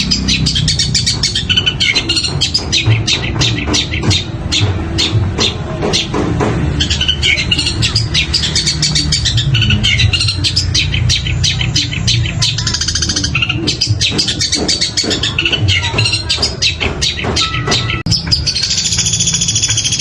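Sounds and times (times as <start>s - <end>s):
bird singing high chirps: 0.0s - 6.2s, 6.8s - 20.0s
bird rattling trill: 0.0s - 20.0s.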